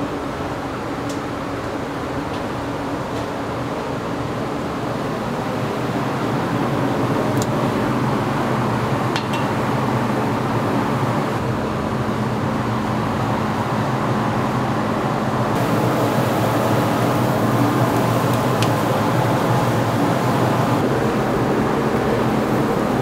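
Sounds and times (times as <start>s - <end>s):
grill kitchen roar and hum: 0.0s - 23.0s.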